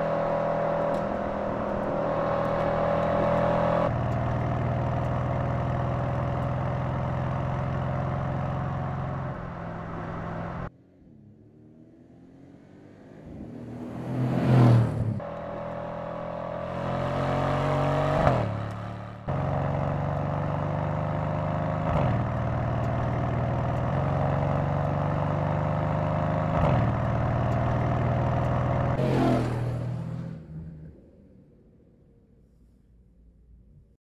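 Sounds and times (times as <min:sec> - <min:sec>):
car exhaust accelerating: 0:00.0 - 0:31.4.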